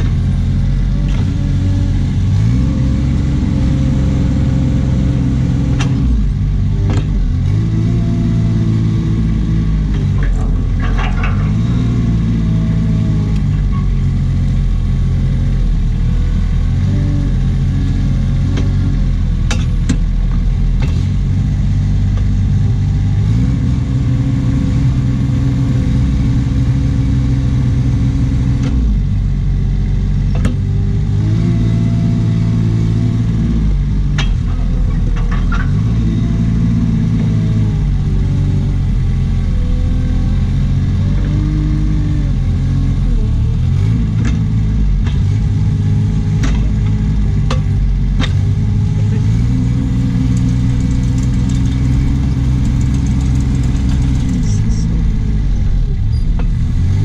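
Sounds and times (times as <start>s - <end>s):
loader engine under load: 0.0s - 57.0s.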